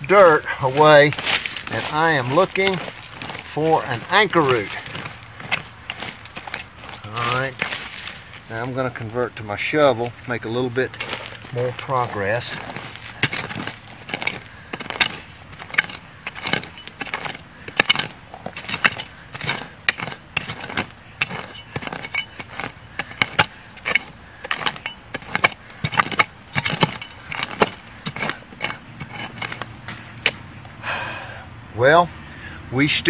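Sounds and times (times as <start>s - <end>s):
shovel scraping stony soil: 0.0s - 30.8s.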